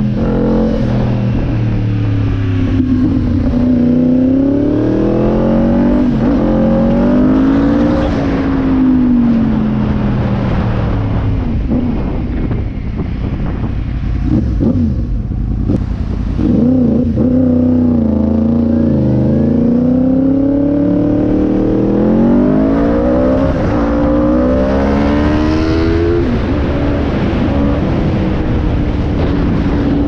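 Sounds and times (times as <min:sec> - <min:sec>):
road rumble: 0:00.0 - 0:30.0
wind noise: 0:00.0 - 0:30.0.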